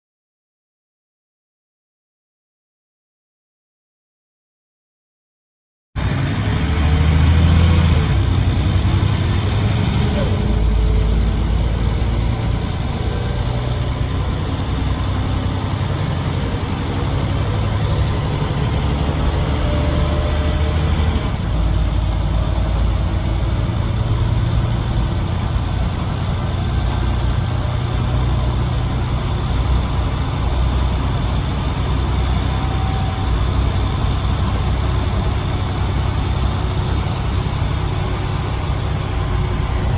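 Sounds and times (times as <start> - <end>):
bus diesel engine rumbling: 6.0 - 39.9.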